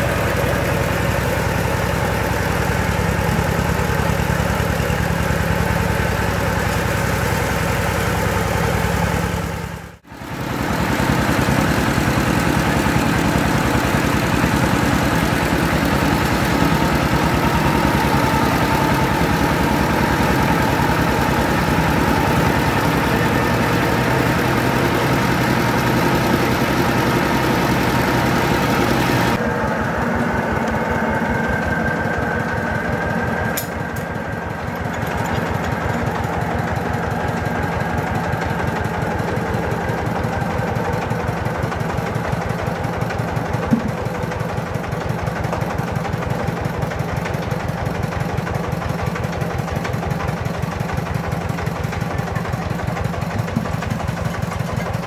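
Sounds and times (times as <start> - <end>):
diesel engine beating: 0.0 - 55.0.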